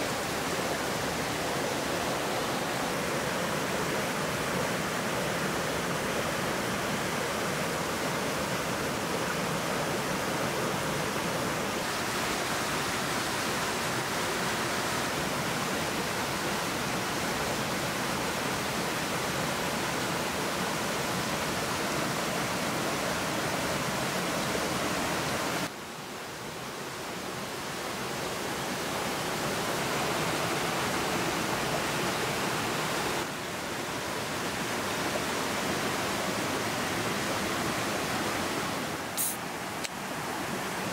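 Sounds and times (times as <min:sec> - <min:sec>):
stream rushing over cascades: 0:00.0 - 0:40.9.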